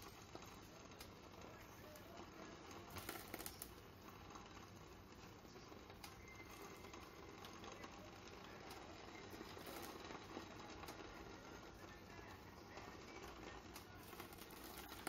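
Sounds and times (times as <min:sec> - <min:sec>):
faint meat sizzling: 0:00.0 - 0:15.0.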